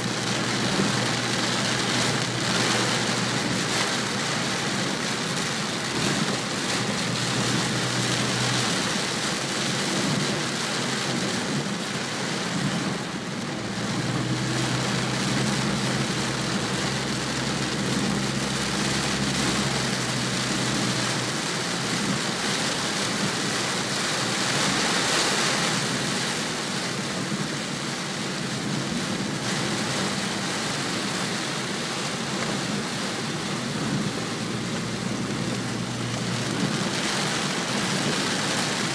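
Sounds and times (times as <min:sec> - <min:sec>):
car running: 0:00.0 - 0:38.9
heavy rain on car windshield: 0:00.0 - 0:38.9.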